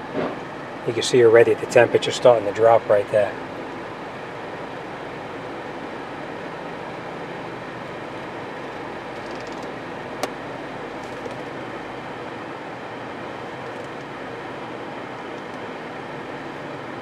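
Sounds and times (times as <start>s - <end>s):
air conditioning blower rushing: 0.0s - 17.0s.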